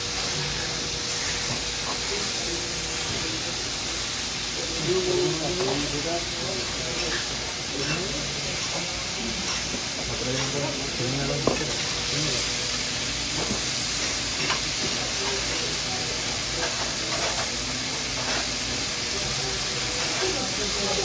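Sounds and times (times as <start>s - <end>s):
steak sizzling on griddle: 0.0s - 21.0s.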